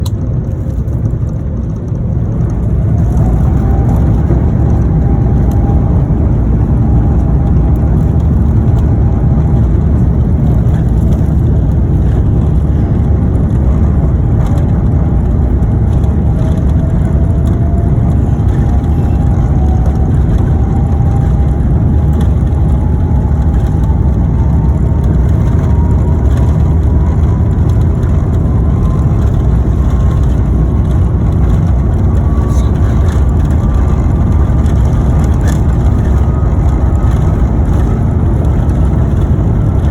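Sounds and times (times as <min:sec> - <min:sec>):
jet engine whine rising: 0:00.0 - 0:39.9
jet engines roaring at takeoff: 0:00.0 - 0:39.9.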